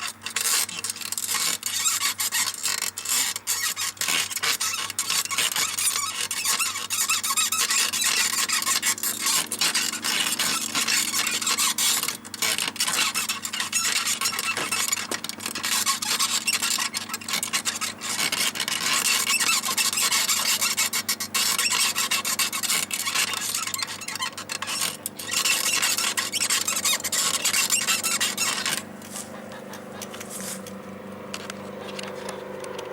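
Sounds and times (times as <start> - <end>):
bicycle saddle squeaking: 0.0 - 32.9.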